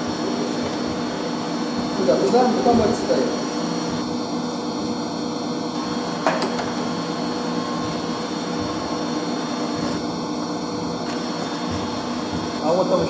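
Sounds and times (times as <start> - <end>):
electric pump motors humming: 0.0 - 13.0
high whine: 0.0 - 13.0.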